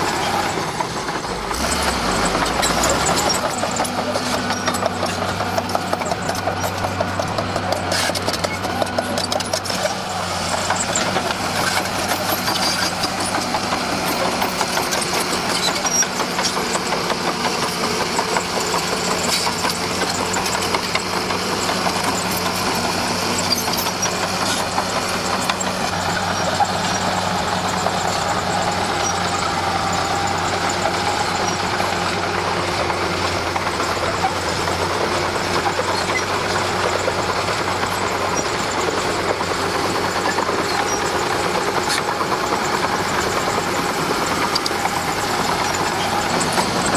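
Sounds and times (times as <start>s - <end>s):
bulldozer diesel engine: 0.0s - 46.9s.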